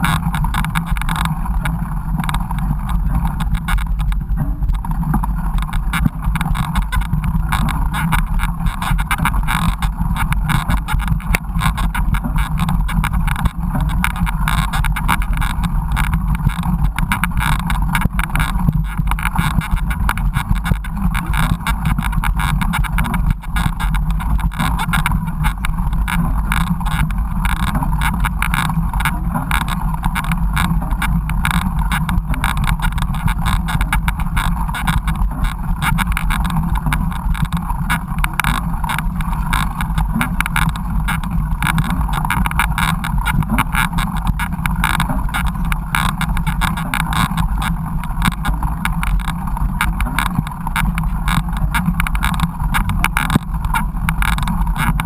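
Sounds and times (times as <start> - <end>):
bike rattles and knocks: 0.0 - 55.0.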